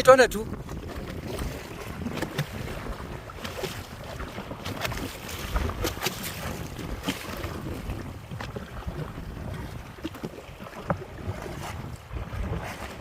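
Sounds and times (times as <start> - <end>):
water sloshing: 0.0 - 13.0
wind buffeting microphone: 0.0 - 13.0
small splashes and knocks: 0.7 - 13.0.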